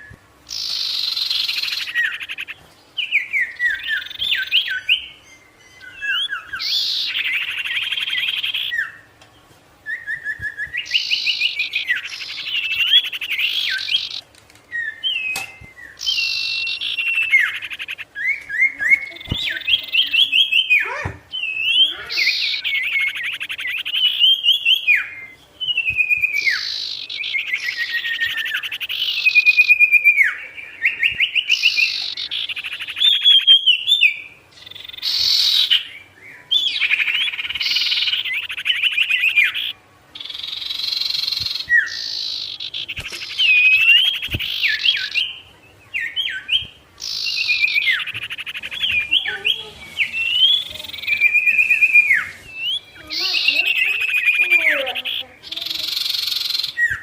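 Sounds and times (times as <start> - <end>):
songbird trilling: 0.0 - 9.2, 9.9 - 57.0.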